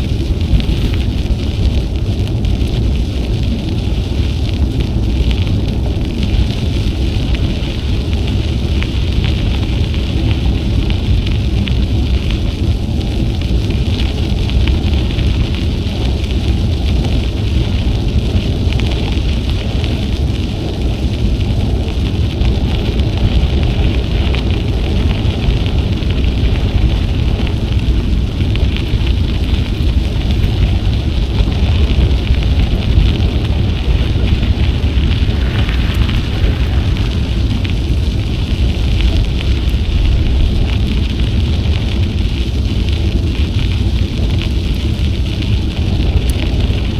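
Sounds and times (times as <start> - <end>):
bicycle tyres crackling on trail: 0.0 - 46.9
wind buffeting microphone: 0.0 - 46.9.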